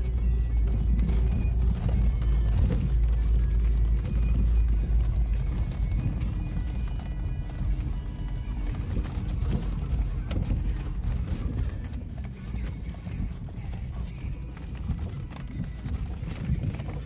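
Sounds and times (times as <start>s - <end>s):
knocks and rattles: 0.0s - 17.0s
vehicle cabin rumble: 0.0s - 17.0s.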